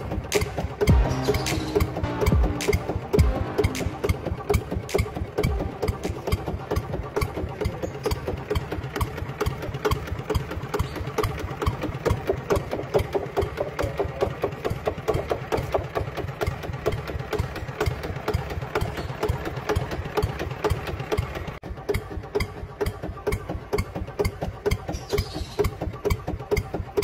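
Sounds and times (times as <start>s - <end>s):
engine idling with knocking: 0.0s - 27.0s.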